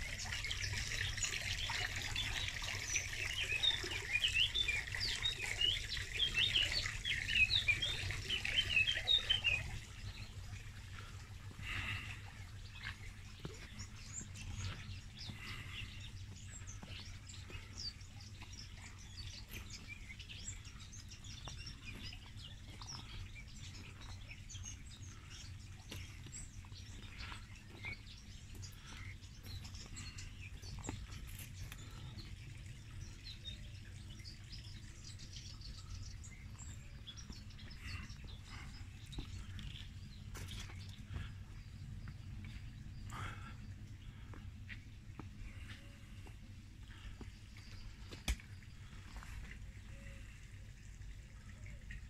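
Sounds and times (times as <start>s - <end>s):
small birds chirping: 0.0s - 52.0s
steady low rumble: 9.6s - 51.9s.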